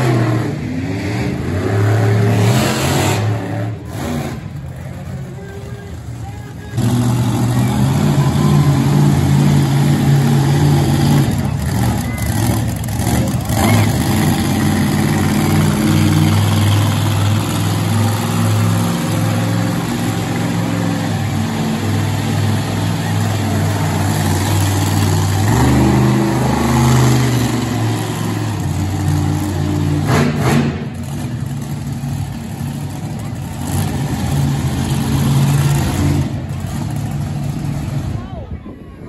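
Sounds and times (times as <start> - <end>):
monster truck engine running: 0.0 - 39.0.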